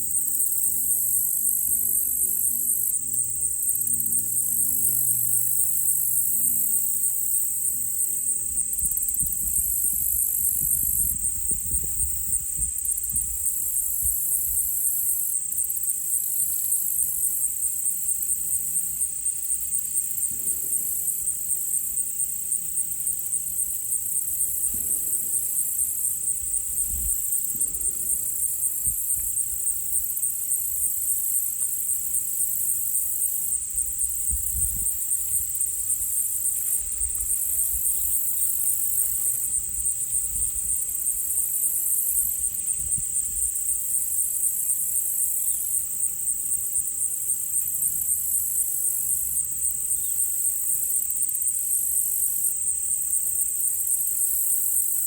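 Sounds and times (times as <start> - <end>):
insect chorus trilling: 0.0 - 55.0.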